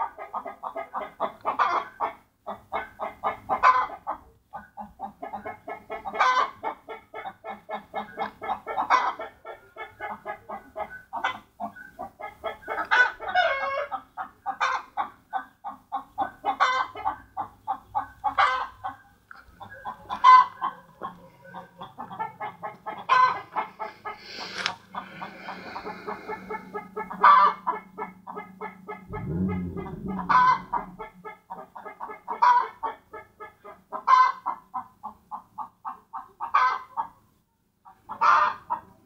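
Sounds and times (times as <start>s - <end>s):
chickens clucking: 0.0s - 37.2s.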